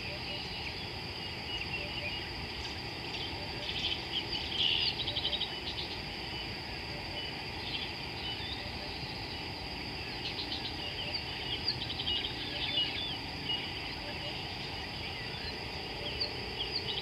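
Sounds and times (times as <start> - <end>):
high-pitched insect drone: 0.0 - 17.0
birds chirping and trilling: 0.3 - 17.0.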